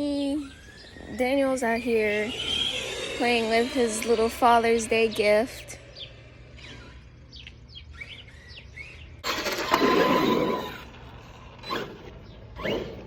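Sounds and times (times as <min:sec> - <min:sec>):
birds chirping faintly: 0:00.0 - 0:13.0
radio-controlled truck running by: 0:00.0 - 0:13.0.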